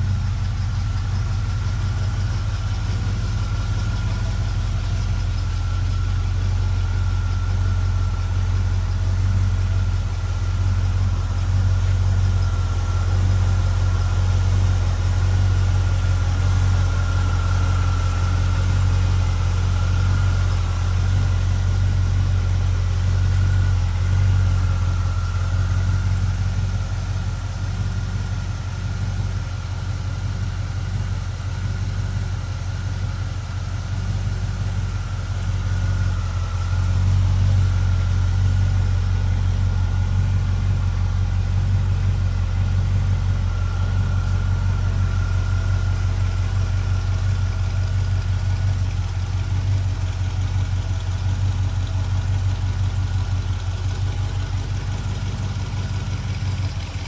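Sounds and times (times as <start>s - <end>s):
thin steady whine: 0.0s - 26.8s, 33.9s - 57.0s
car engine idling: 0.0s - 57.0s.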